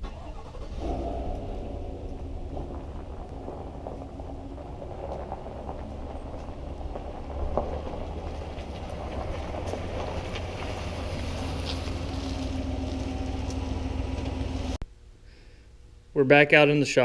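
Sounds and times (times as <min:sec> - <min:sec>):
engine running low rumble: 0:00.0 - 0:14.8.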